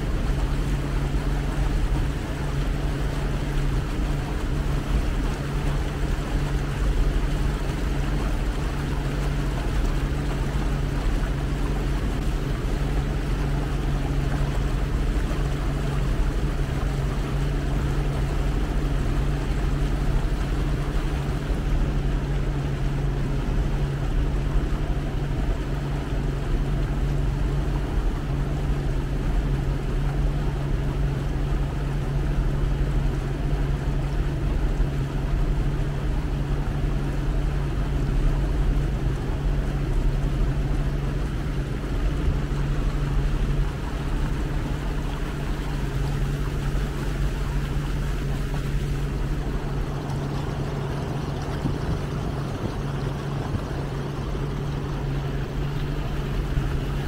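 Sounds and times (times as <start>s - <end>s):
motorboat engine droning: 0.0s - 57.0s.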